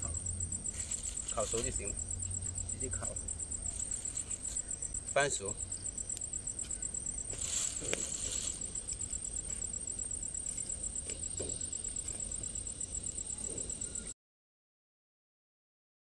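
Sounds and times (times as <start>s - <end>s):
wood fire crackling: 0.0s - 13.9s
insect trilling: 0.0s - 14.1s
low outdoor rumble: 0.0s - 14.1s.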